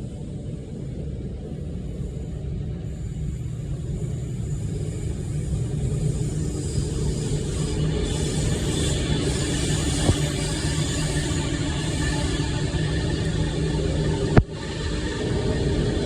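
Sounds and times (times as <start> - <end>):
train rumbling past: 0.0 - 16.0
wheels hissing on rail: 0.0 - 16.0.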